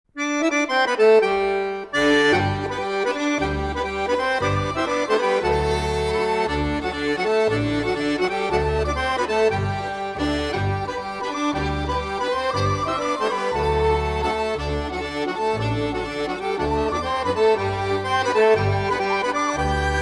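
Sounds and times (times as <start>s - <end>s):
accordion playing a tune: 0.2s - 20.0s
stepping bass: 2.0s - 20.0s.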